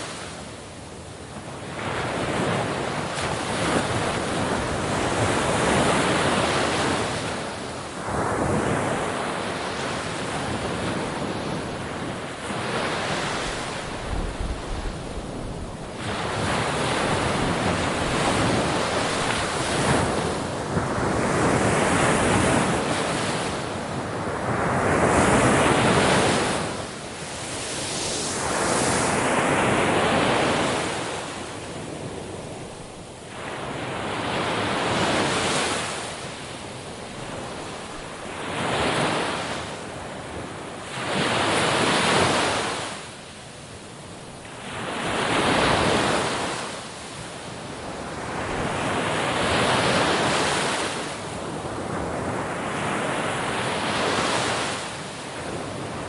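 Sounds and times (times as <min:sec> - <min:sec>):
ocean waves breaking: 0:01.6 - 0:40.2, 0:47.8 - 0:56.0.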